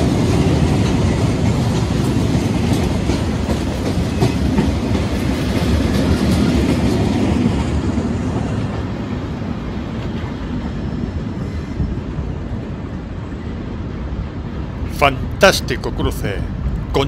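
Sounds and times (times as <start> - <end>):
diesel locomotive drone: 0.0 - 17.0.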